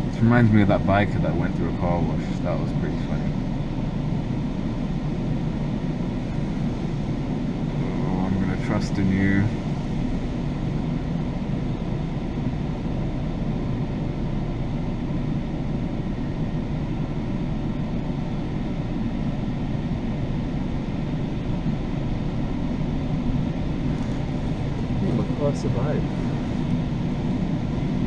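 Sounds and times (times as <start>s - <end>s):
car wash machinery rushing: 0.0s - 28.0s.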